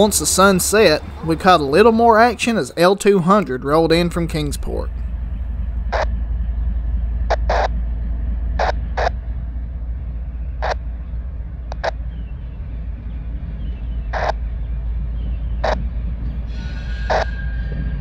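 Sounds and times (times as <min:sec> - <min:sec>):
train rumble: 0:00.0 - 0:18.0
wheels clacking over rail joints: 0:00.0 - 0:18.0.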